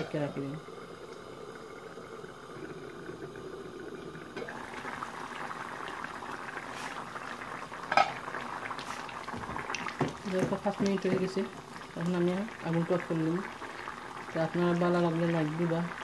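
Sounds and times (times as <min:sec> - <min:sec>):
curry bubbling in a frying pan: 0:00.0 - 0:16.0.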